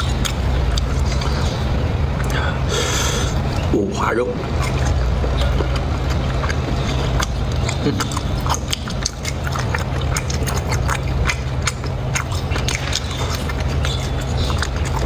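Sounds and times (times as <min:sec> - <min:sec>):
chewing clicks and smacks: 0:00.0 - 0:02.4, 0:04.4 - 0:15.0
steady low rumble: 0:00.0 - 0:15.0.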